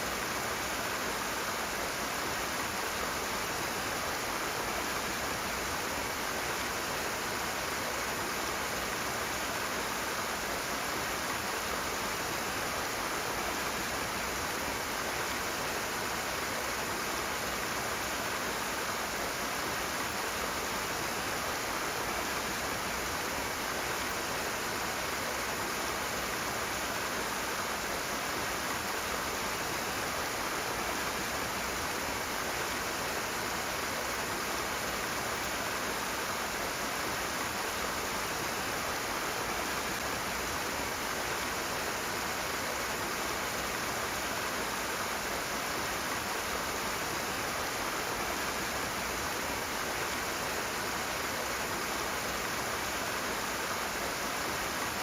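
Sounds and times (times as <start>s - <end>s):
fast stream rushing: 0.0s - 55.0s.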